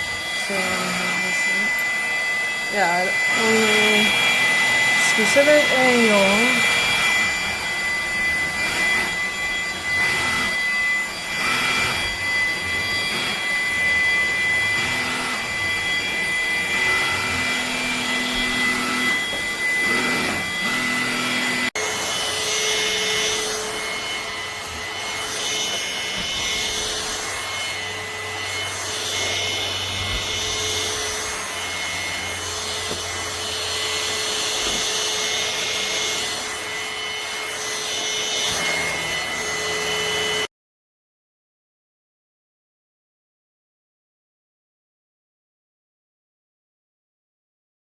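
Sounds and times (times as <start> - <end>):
stick vacuum motor whining: 0.0 - 40.5.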